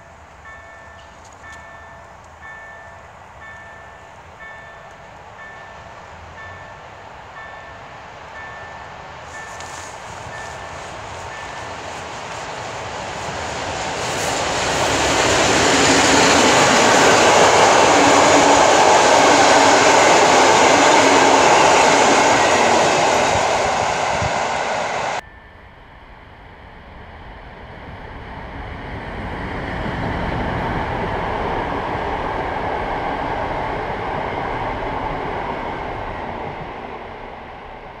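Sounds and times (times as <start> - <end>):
train passing on rails: 0.0 - 38.0.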